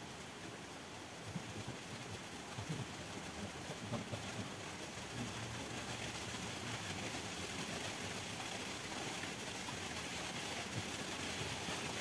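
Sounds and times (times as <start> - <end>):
stream hiss: 0.0 - 12.0.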